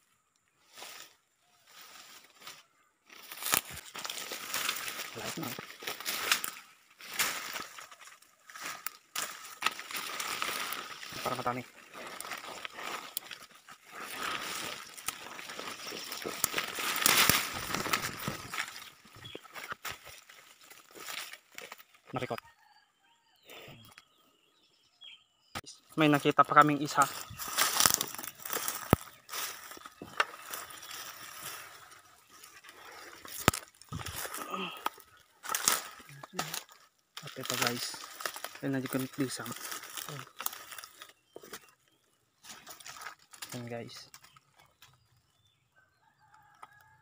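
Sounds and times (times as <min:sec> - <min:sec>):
leaves and twigs rustling and snapping: 0:00.2 - 0:22.5, 0:26.0 - 0:45.5, 0:46.1 - 0:47.0.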